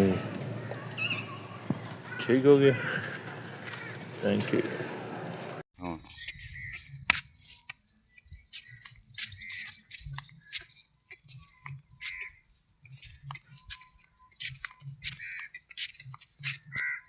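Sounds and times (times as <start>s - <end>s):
small birds chirping: 0.0s - 4.9s, 5.8s - 17.0s.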